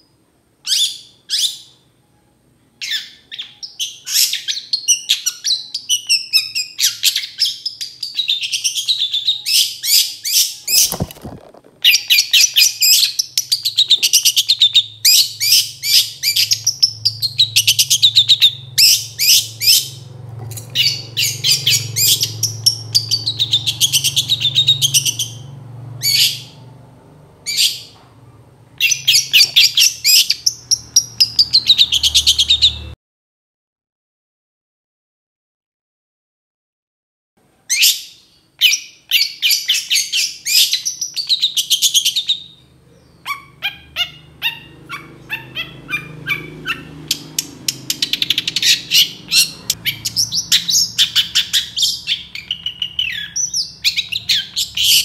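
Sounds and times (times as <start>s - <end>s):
bird singing rattling phrases: 0.0s - 2.0s, 2.8s - 28.0s, 28.6s - 33.0s, 37.7s - 55.0s.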